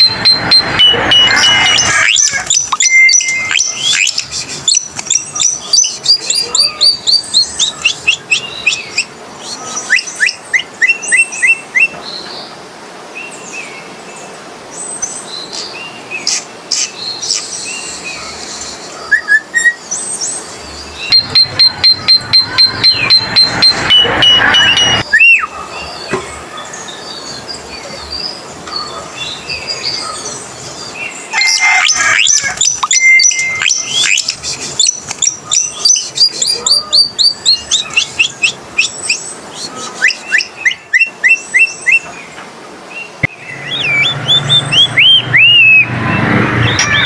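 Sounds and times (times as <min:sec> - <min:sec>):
starling calling with chirps and whistles: 0:00.0 - 0:12.4, 0:14.8 - 0:42.4, 0:43.0 - 0:47.0.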